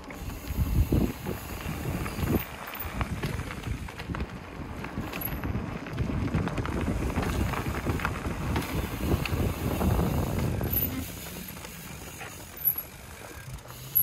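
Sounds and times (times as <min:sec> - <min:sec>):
wind buffeting microphone: 0:00.0 - 0:13.2
bike tyres rolling on gravel: 0:00.0 - 0:14.0.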